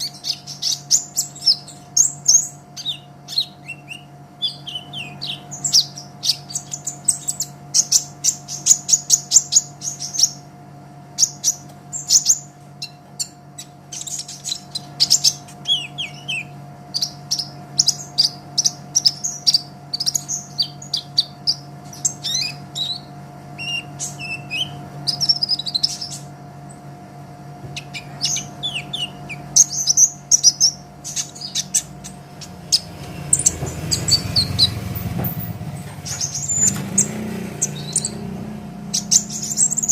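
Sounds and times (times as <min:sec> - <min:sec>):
faint steady hum: 0:00.0 - 0:39.9
sunbird chirping and trilling: 0:00.0 - 0:39.9.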